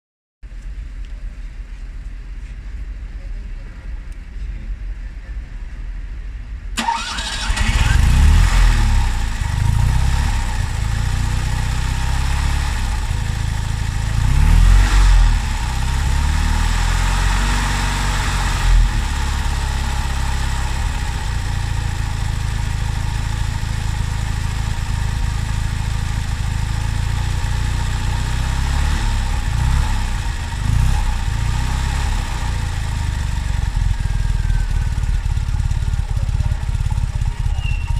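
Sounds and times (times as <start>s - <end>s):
car engine starting and idling: 6.7s - 37.9s.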